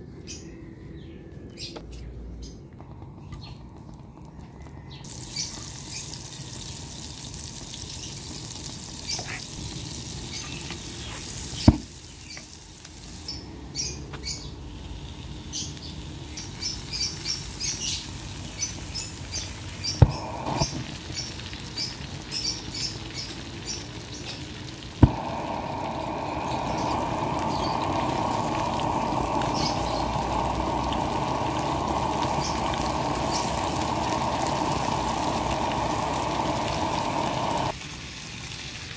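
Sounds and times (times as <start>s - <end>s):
butter sizzling in a frying pan: 5.0s - 38.9s.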